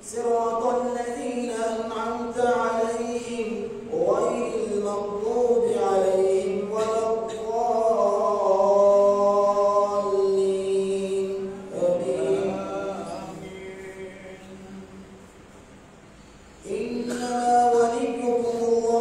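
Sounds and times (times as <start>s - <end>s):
man chanting: 0.0s - 15.2s, 16.6s - 19.0s.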